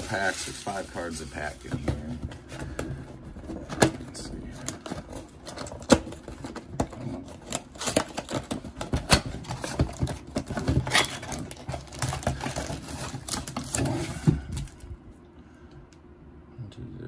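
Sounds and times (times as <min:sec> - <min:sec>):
foil packs rustling: 0:00.0 - 0:14.8.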